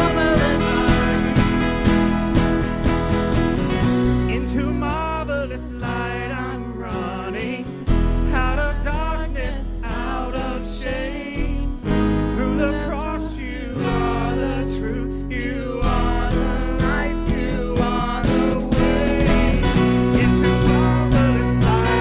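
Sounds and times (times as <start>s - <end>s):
man singing: 0.0s - 1.9s, 4.1s - 22.0s
acoustic guitar: 0.0s - 22.0s
electric bass guitar: 0.0s - 22.0s.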